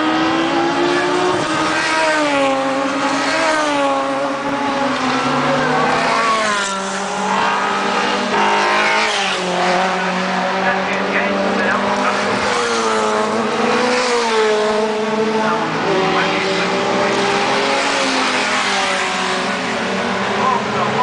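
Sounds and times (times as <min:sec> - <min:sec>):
racing cars passing at speed: 0:00.0 - 0:21.0.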